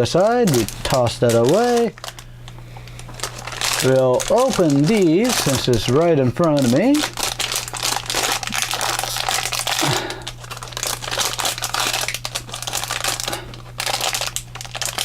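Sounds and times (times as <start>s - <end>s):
plastic packet crinkling: 0.0s - 15.0s.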